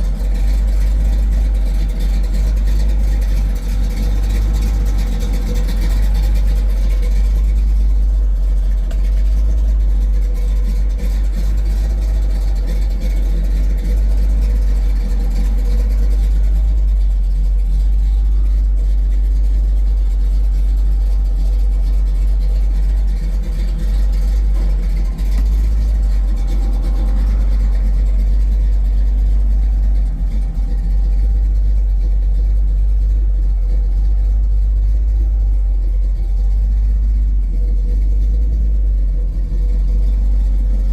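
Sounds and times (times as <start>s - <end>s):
car engine running: 0.0s - 40.9s
road and wind rumble: 0.0s - 40.9s.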